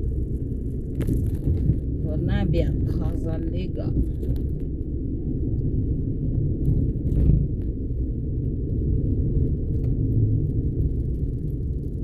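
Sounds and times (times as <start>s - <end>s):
road and engine rumble inside car: 0.0s - 12.0s.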